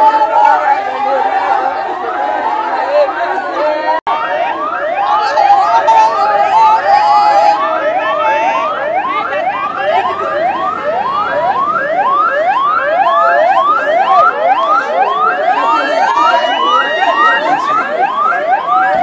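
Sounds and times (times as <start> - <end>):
vehicle siren yelping: 0.0 - 19.0.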